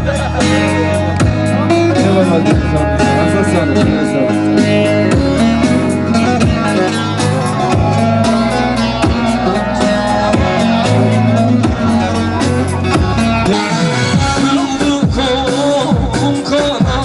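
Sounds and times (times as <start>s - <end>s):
steady dance beat: 0.0s - 16.2s.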